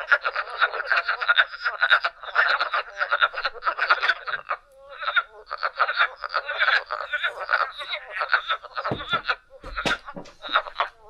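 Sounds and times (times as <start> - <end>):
frogs calling: 0.0 - 11.0.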